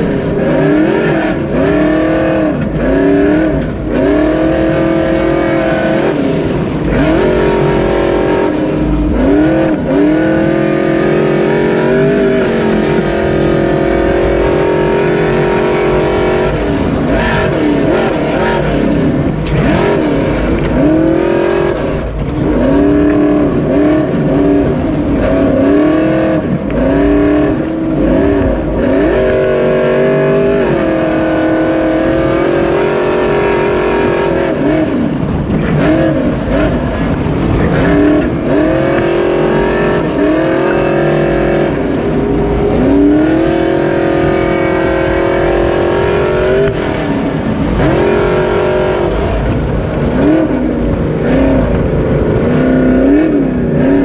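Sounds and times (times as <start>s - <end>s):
race truck engine revving: 0.0s - 54.0s.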